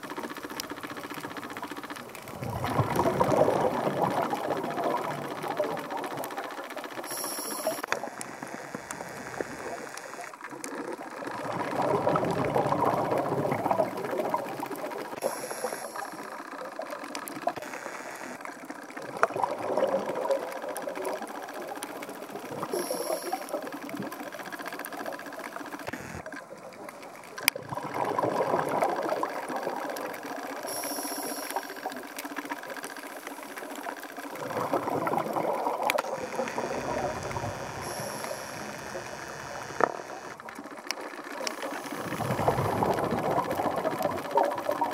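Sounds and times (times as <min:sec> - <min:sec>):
regulator bubbles exhaled underwater: 0:00.0 - 0:44.9
steady fine crackling: 0:00.0 - 0:44.9.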